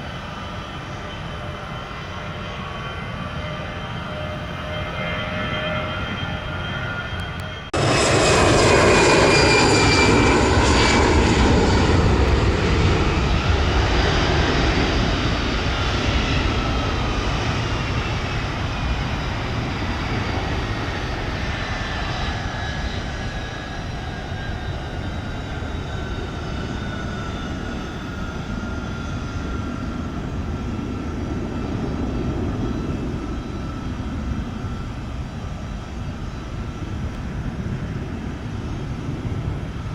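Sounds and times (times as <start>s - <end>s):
jet engines passing: 0.0s - 39.9s.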